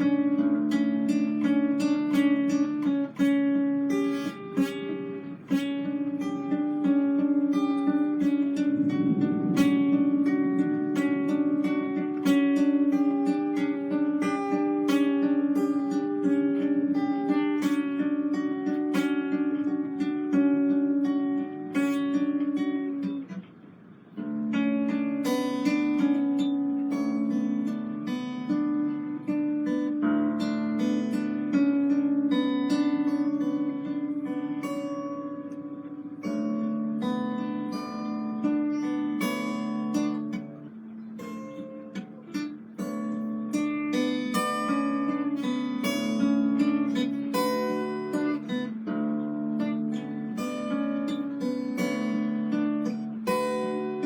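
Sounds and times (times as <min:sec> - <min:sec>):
acoustic guitar strumming: 0:00.0 - 0:54.0
plucked stringed instrument: 0:00.0 - 0:54.0.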